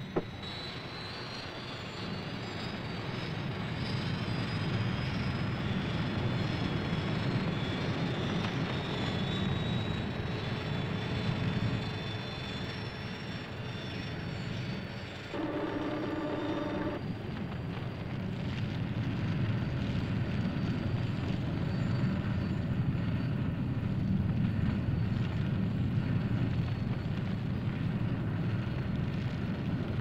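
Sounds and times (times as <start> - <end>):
jet engine whine and rumble: 0.0 - 30.0.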